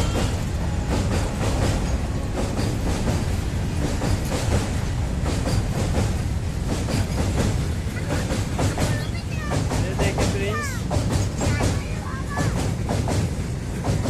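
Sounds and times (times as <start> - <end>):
train rumbling past: 0.0 - 14.0
wheels clacking over rails: 0.0 - 14.0.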